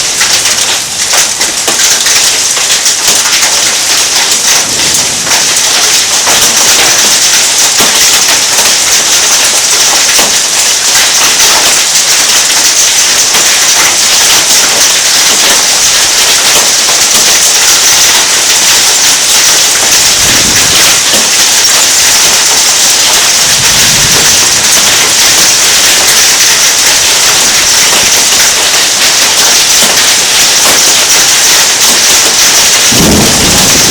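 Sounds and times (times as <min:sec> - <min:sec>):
hailstones impact clicks: 0:00.0 - 0:33.9
heavy rain downpour: 0:00.0 - 0:33.9.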